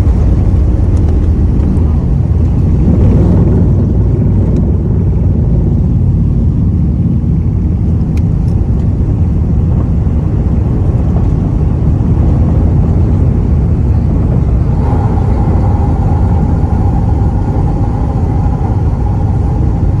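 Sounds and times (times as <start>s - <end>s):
jet engines rumbling: 0.0s - 20.0s
steady high engine tone: 0.0s - 20.0s.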